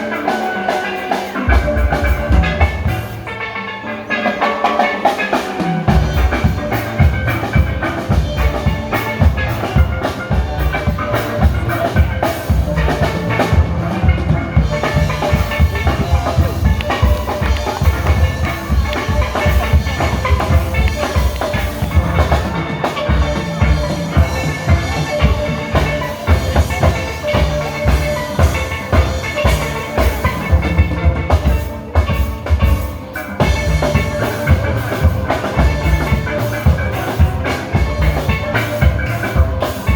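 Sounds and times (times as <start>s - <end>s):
drum kit beat: 0.0s - 39.9s
steelpans playing melody: 0.0s - 39.9s.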